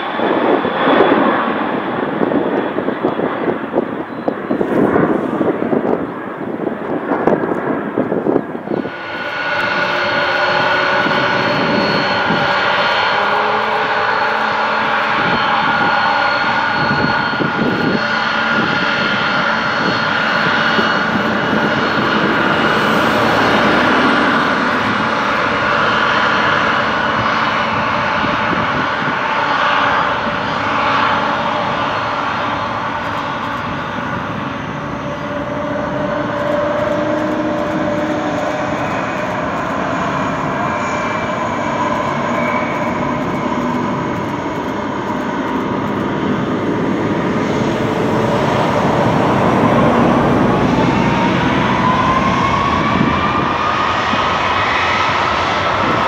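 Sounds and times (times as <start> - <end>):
aircraft engine running: 0.0 - 56.0.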